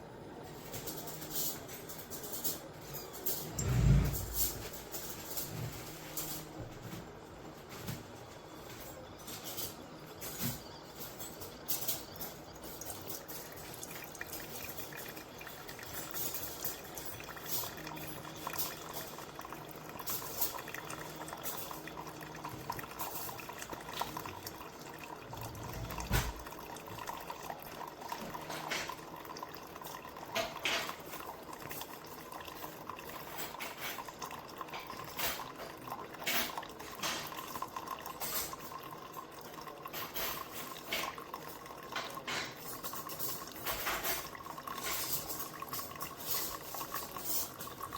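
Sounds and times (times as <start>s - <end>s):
coffee dripping and sputtering: 0.1s - 47.9s.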